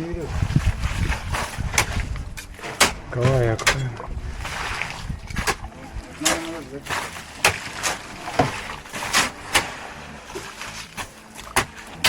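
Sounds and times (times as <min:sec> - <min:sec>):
shovels scraping wet concrete: 0:00.1 - 0:12.0.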